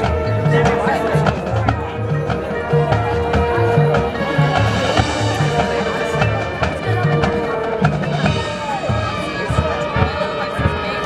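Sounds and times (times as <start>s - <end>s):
drum strokes: 0.0s - 11.0s
marching band playing: 0.0s - 11.0s.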